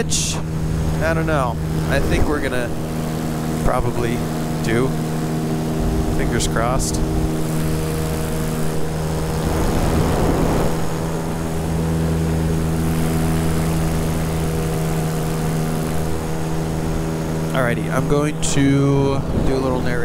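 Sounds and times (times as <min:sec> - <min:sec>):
electric motor and propeller humming: 0:00.0 - 0:20.0.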